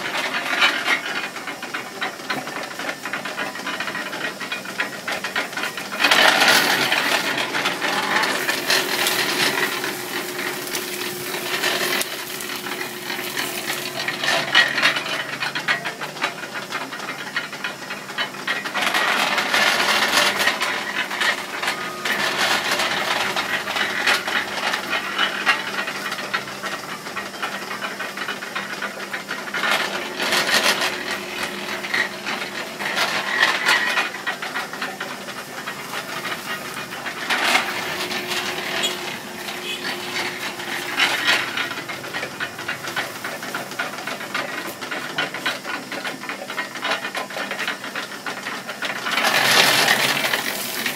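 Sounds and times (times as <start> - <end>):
cane mill gears clattering: 0.0 - 50.9.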